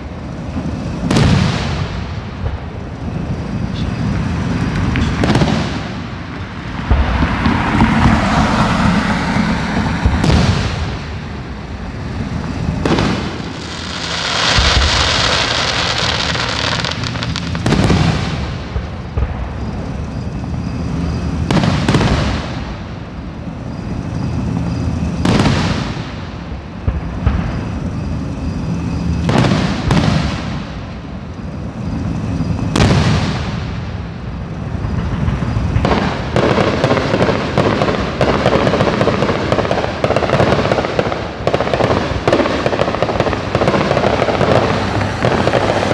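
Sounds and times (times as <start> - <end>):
firework booms with echo: 0.0 - 2.8, 4.8 - 8.4, 9.7 - 11.4, 12.2 - 20.2, 21.4 - 23.1, 24.5 - 28.6, 29.2 - 31.1, 31.9 - 34.1, 34.8 - 45.9
firework crackling: 0.0 - 45.9.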